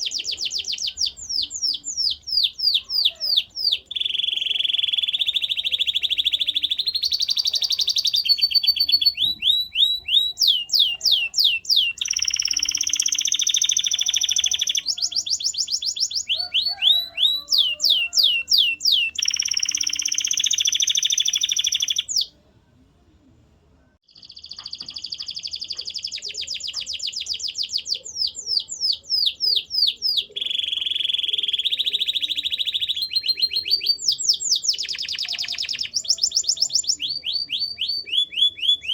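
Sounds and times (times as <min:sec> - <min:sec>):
canary singing trills: 0:00.0 - 0:22.4, 0:24.1 - 0:38.9.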